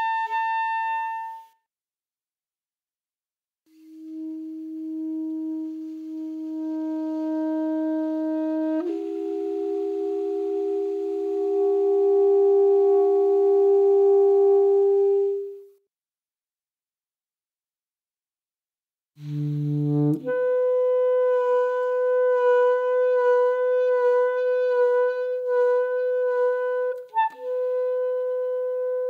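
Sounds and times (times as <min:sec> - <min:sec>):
alto saxophone playing: 0:00.0 - 0:01.6, 0:03.7 - 0:15.8, 0:19.2 - 0:29.0.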